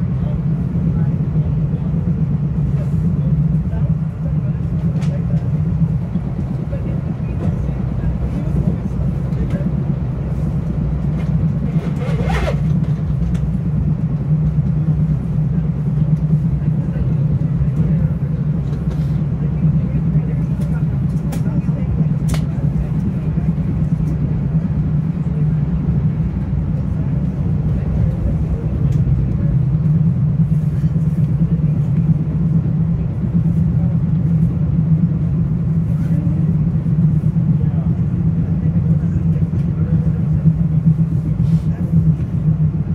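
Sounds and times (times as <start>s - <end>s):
train wheels rumbling: 0.0s - 42.9s.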